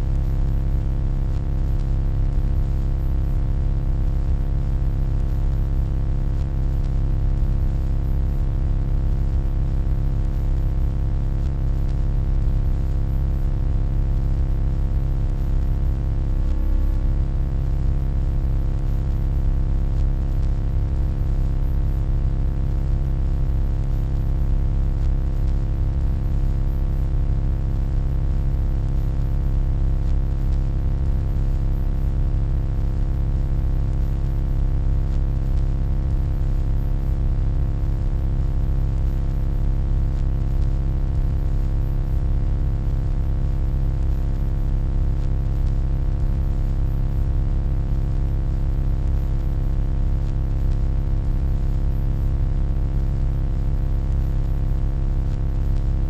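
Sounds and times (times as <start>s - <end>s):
electronic hum: 0.0s - 42.3s, 43.0s - 45.8s.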